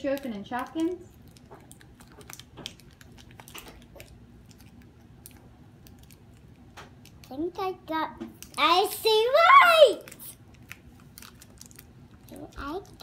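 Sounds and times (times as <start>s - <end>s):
plastic packaging crackling: 0.0s - 7.4s, 8.4s - 13.0s.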